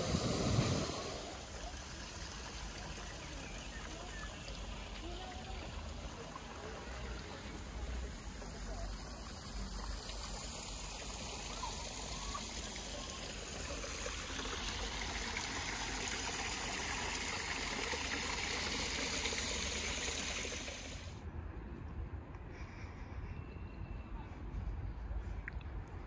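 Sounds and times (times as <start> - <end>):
water running: 0.0 - 21.2.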